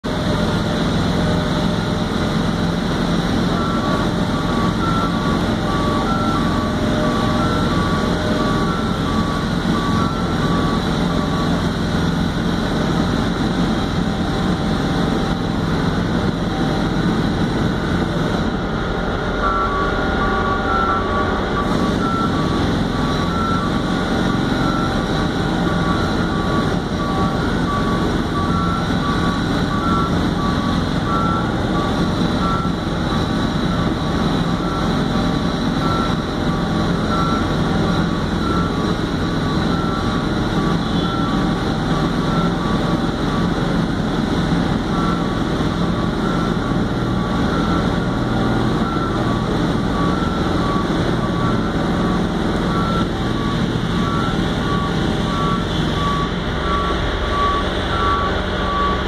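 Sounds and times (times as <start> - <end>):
boom lift engine running: 0.0 - 59.0
two-tone travel alarm beeping: 2.7 - 59.0.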